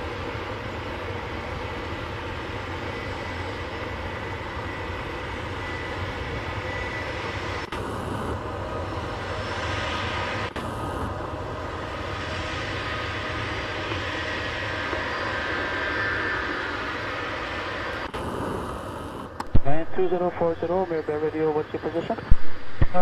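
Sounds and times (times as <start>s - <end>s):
jet engines idling: 0.0s - 23.0s.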